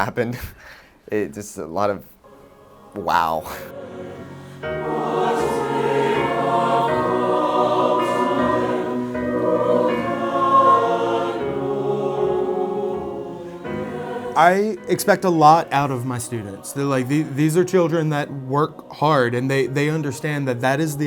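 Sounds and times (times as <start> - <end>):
choir singing harmony: 2.2 - 21.0.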